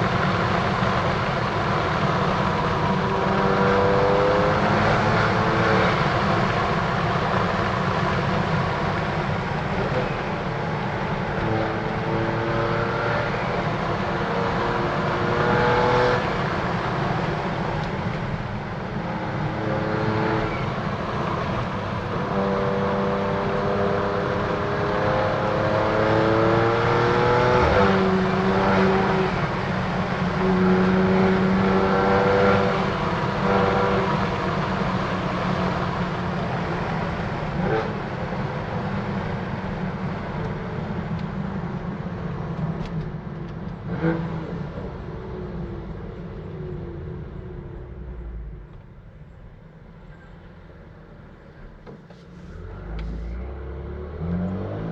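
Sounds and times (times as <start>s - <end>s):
car engine accelerating hard: 0.0s - 49.3s, 52.3s - 54.9s.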